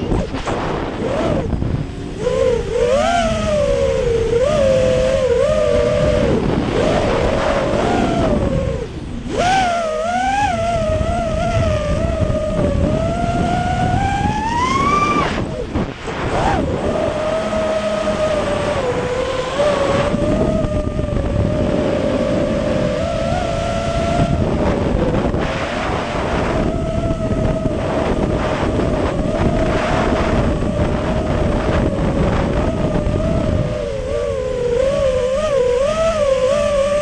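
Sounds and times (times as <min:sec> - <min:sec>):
quadcopter motors whining: 0:00.0 - 0:37.0
wind buffeting microphone: 0:00.0 - 0:37.0.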